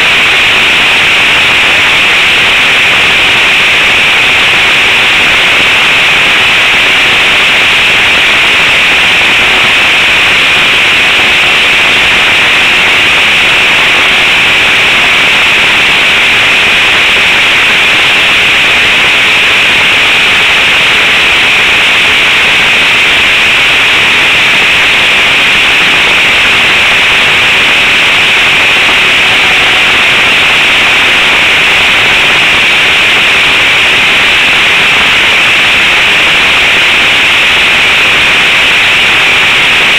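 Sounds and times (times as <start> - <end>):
model plane engine buzzing: 0.0 - 39.9.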